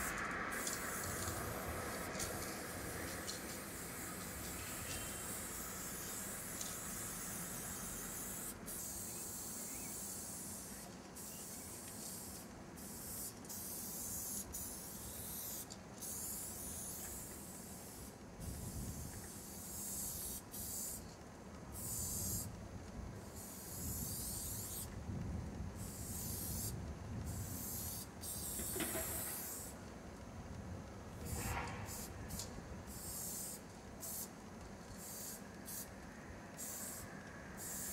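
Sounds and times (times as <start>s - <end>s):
spray paint can hissing: 0.0s - 22.6s, 23.2s - 25.0s, 25.7s - 29.8s, 31.1s - 37.9s.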